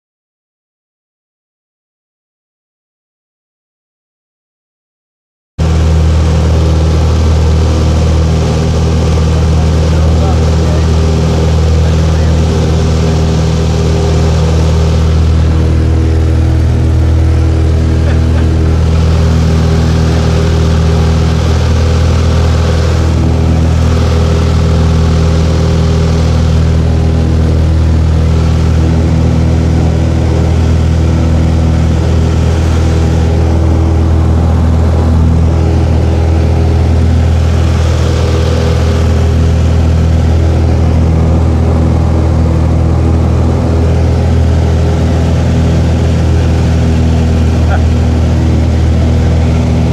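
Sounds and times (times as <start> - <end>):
airplane engine and propeller droning: 5.6 - 49.9.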